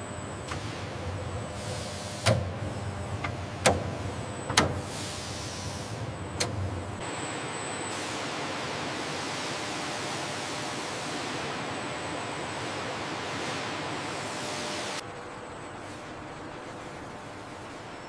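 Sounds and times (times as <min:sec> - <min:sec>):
factory machinery whirring: 0:00.0 - 0:18.0.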